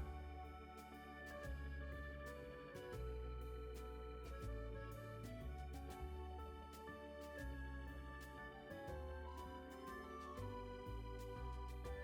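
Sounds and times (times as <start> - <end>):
keyboard chords: 0.0 - 12.0
steady bass: 0.0 - 12.0.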